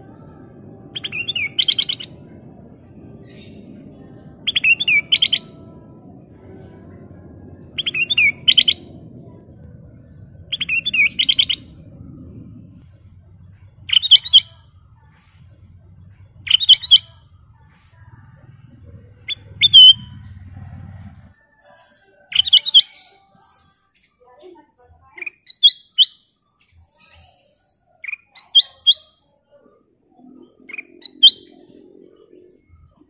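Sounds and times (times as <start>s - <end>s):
bird singing warbled phrases: 0.0s - 5.7s, 6.4s - 15.1s, 15.9s - 21.2s, 22.3s - 33.0s.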